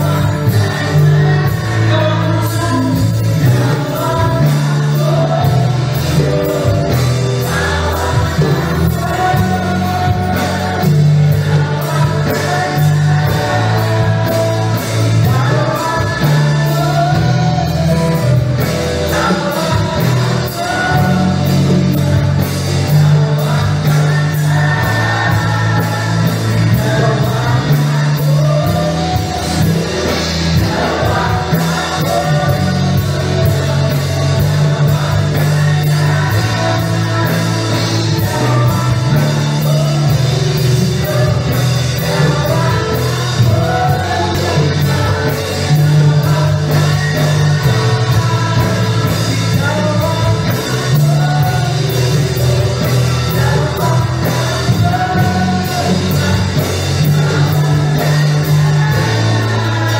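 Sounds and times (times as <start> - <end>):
electric guitar: 0.0 - 59.9
keyboard: 0.0 - 59.9
low bass notes: 0.0 - 59.9
steady drum beat: 0.0 - 59.9
voices singing together: 0.0 - 59.9.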